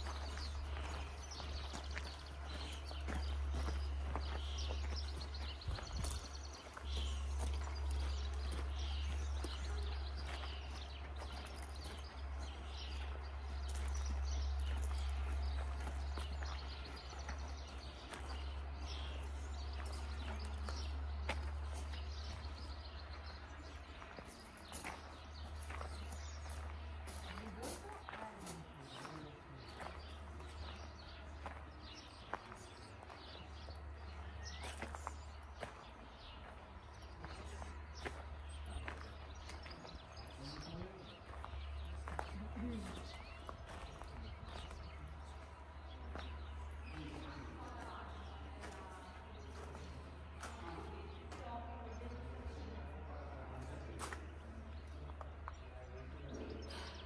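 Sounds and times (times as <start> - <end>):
footsteps: 0.0 - 52.6
small birds chirping: 0.0 - 57.0.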